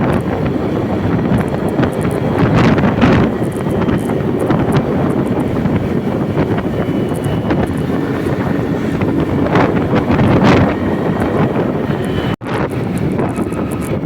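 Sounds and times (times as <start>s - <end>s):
vehicle engine and road noise: 0.0s - 14.0s
wind buffeting microphone: 0.0s - 14.0s.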